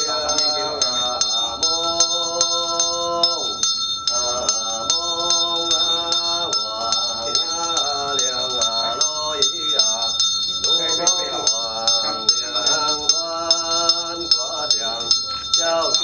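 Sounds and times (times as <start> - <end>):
bell struck rhythmically: 0.0 - 16.0
person chanting: 0.0 - 16.0.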